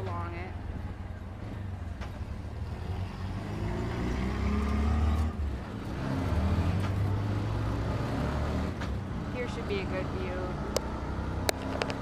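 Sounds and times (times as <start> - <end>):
auto-rickshaw engine revving: 0.0 - 12.0.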